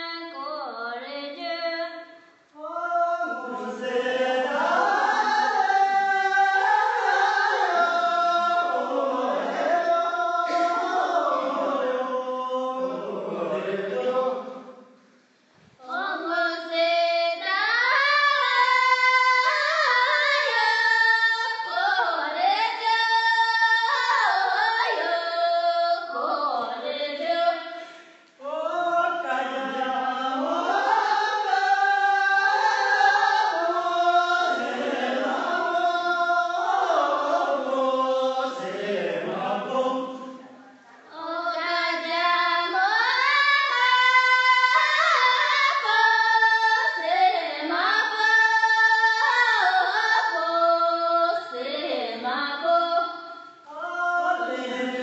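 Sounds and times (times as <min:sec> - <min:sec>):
voices singing: 0:02.6 - 0:15.0, 0:15.8 - 0:55.0.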